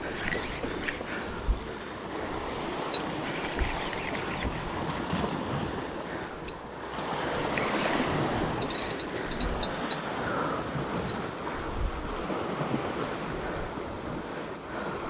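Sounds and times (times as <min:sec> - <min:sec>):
sea waves against rocks: 0:00.0 - 0:15.0
wind buffeting microphone: 0:00.0 - 0:15.0.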